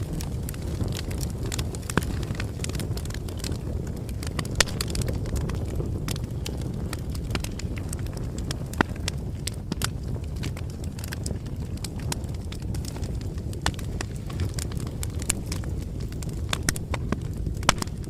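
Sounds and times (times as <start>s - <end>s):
bonfire pops and snaps: 0.0s - 18.0s
low rumble of burning wood: 0.0s - 18.0s.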